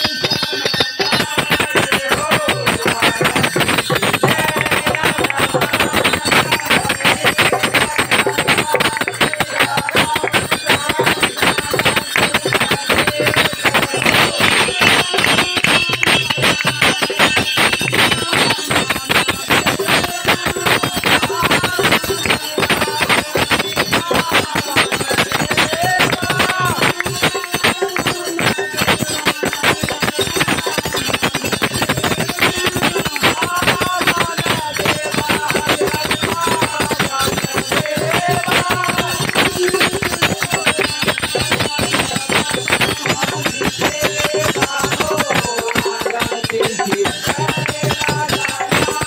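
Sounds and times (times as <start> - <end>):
fast rhythmic percussion: 0.0 - 49.0
voices singing: 0.0 - 49.0.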